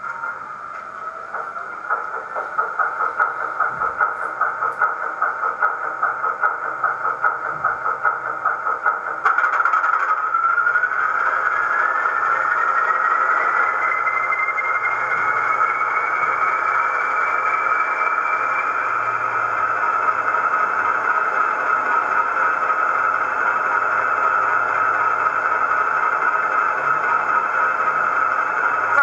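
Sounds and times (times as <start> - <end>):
turbocharger whine rising: 0.0 - 29.0.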